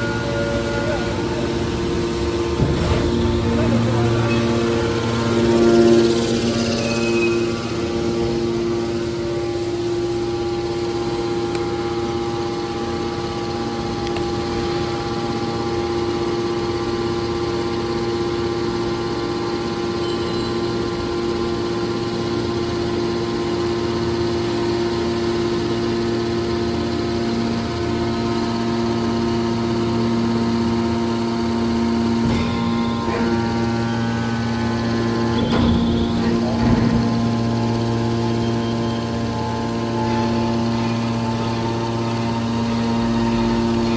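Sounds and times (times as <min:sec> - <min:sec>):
electric motor and pump humming: 0:00.0 - 0:43.9.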